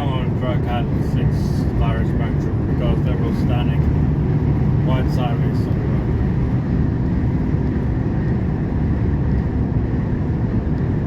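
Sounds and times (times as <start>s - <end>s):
road noise: 0.0s - 11.0s
truck diesel engine drone: 0.0s - 11.0s.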